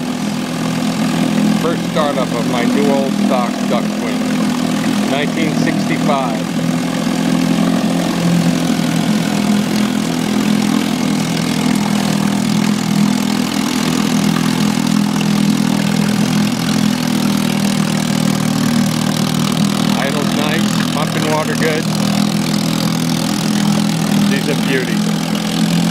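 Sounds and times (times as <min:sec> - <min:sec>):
outboard motor running: 0:00.0 - 0:25.9
propeller churning water: 0:00.0 - 0:25.9.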